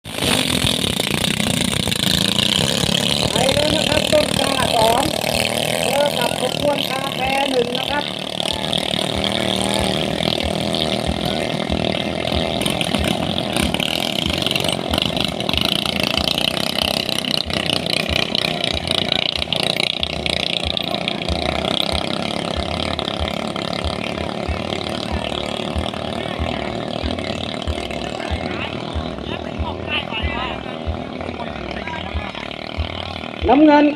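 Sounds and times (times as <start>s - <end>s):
speedboat engines running loud: 0.0s - 33.9s.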